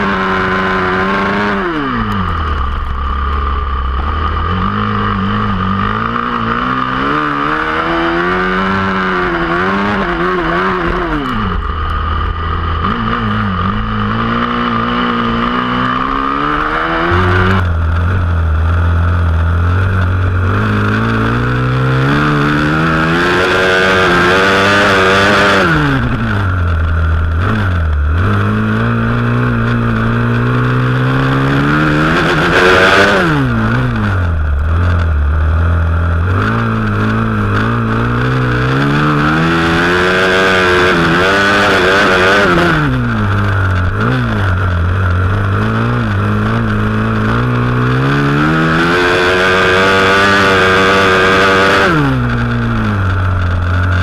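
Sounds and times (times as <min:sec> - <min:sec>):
motorcycle engine revving: 0:00.0 - 0:54.0
steady rushing noise: 0:00.0 - 0:54.0.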